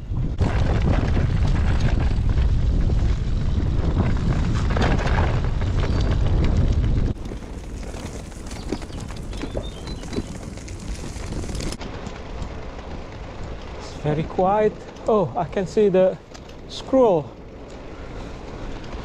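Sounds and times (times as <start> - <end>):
wind buffeting microphone: 0.0 - 16.7
tyres crunching over gravel: 0.4 - 19.0.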